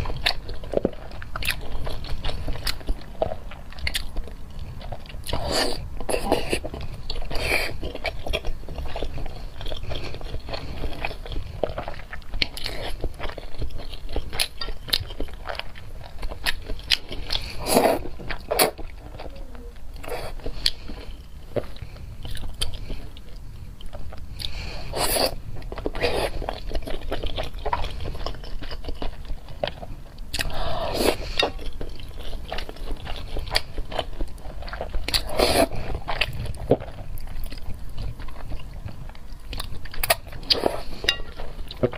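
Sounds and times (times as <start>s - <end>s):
person chewing food: 0.0s - 41.9s.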